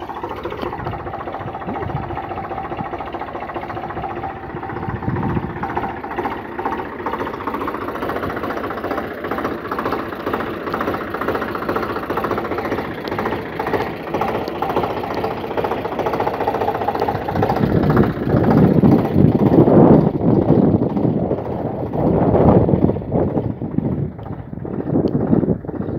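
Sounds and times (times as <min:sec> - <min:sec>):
tractor diesel engine chugging: 0:00.0 - 0:25.9.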